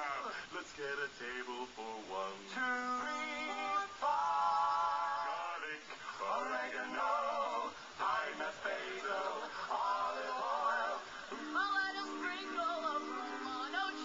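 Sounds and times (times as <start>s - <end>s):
men singing in close harmony: 0.0s - 14.0s.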